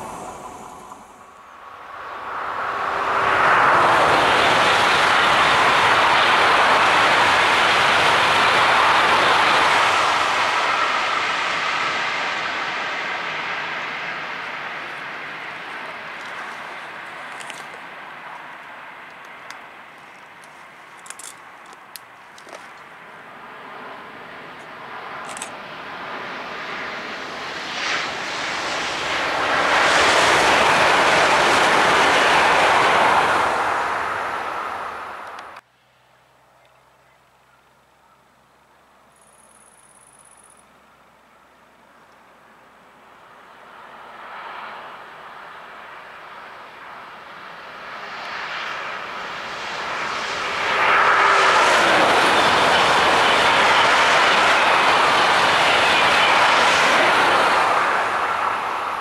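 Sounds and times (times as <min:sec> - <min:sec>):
train rushing past: 0:00.0 - 0:35.6, 0:43.2 - 0:59.0.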